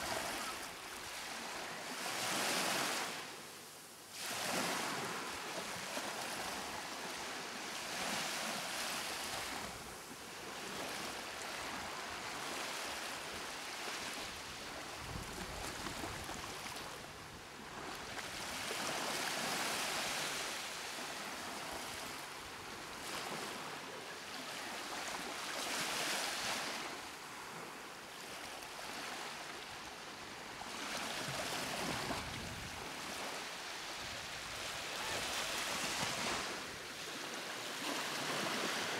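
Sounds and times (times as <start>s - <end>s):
waves surging like surf: 0.0s - 38.9s.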